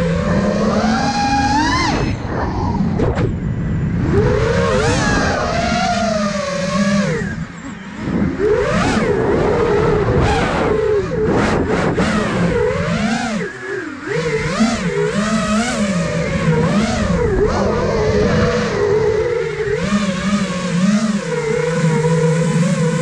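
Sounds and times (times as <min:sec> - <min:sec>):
quadcopter propellers whining: 0:00.0 - 0:23.0.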